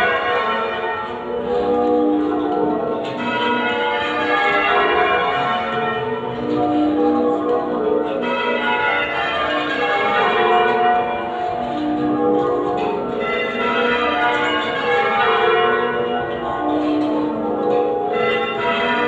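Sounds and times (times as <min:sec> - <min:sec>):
half-muffled church bells ringing: 0:00.0 - 0:19.0.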